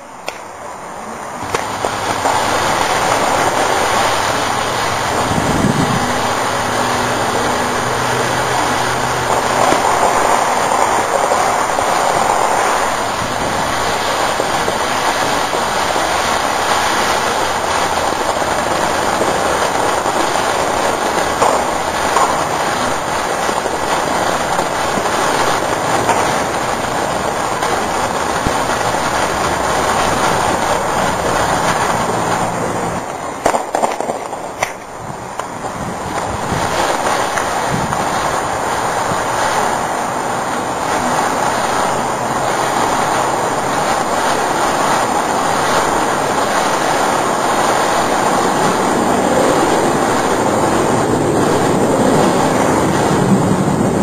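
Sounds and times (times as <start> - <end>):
firework crackling hiss: 0.0 - 54.0.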